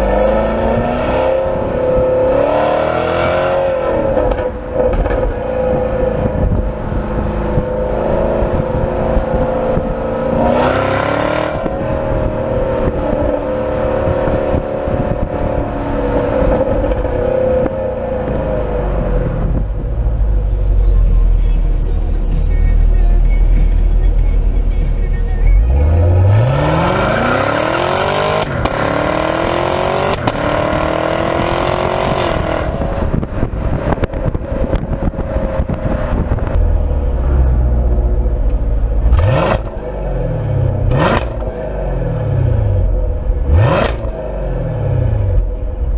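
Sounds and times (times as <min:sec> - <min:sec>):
car exhaust hard acceleration: 0:00.0 - 0:22.4, 0:25.5 - 0:45.9.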